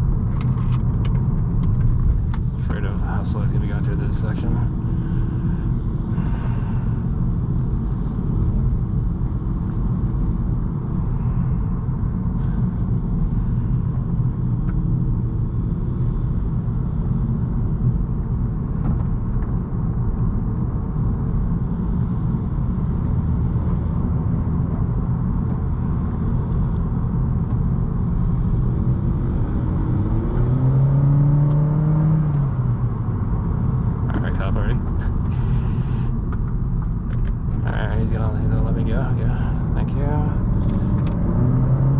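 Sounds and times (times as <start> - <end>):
car engine and tyres rumbling: 0.0 - 41.9.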